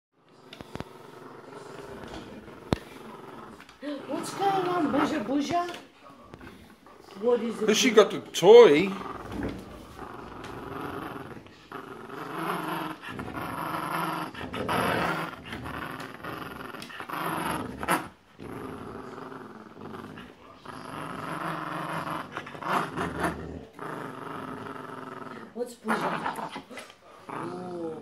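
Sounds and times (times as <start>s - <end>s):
dogs growling in play: 0.2s - 28.0s.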